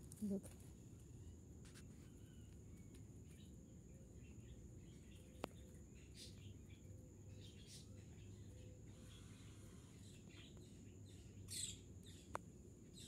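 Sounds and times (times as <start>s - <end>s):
bird chirps: 1.9s - 13.0s.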